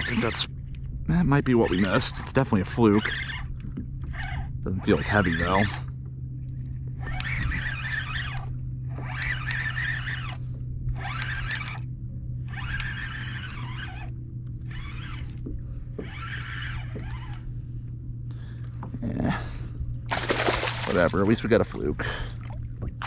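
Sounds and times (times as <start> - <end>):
fishing reel whirring: 0.0 - 0.6, 1.4 - 18.0, 20.1 - 21.9
steady low hum: 0.0 - 23.0.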